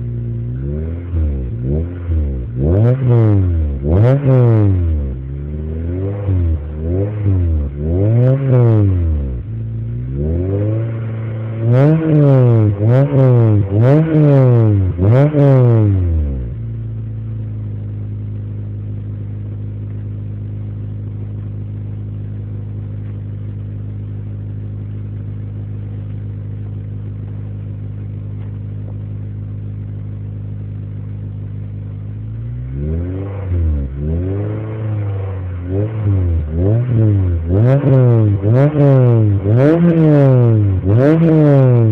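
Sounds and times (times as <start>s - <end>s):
car engine idling: 0.0s - 41.9s
car engine revving: 0.0s - 41.9s.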